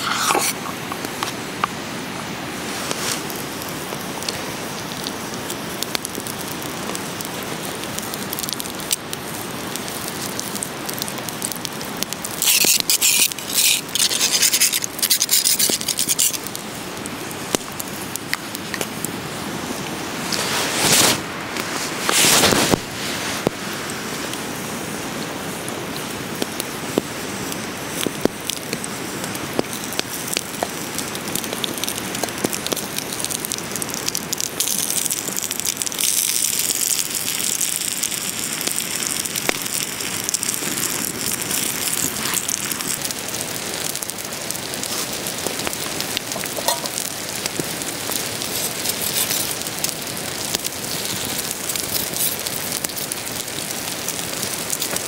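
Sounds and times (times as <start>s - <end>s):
potatoes sizzling on hot stone: 0.0s - 55.0s
wood fire crackling: 0.0s - 55.0s.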